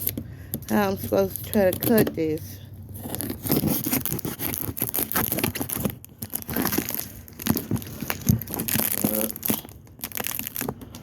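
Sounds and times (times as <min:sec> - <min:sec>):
packaging crinkling and tearing: 0:01.2 - 0:11.0.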